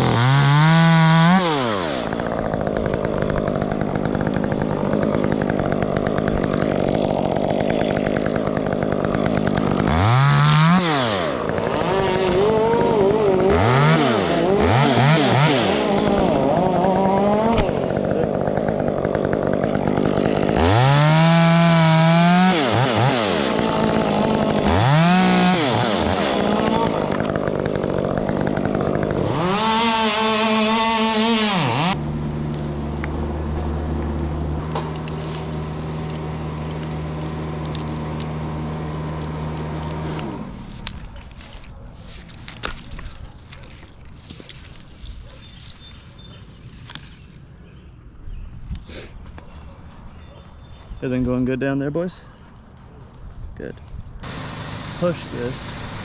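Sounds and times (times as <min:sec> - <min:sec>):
chainsaw revving and cutting: 0:00.0 - 0:47.1, 0:54.2 - 0:56.0.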